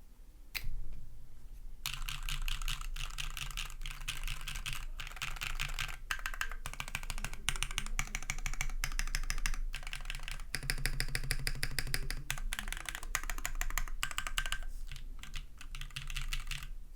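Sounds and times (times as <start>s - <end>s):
fast keyboard typing: 1.8s - 16.7s.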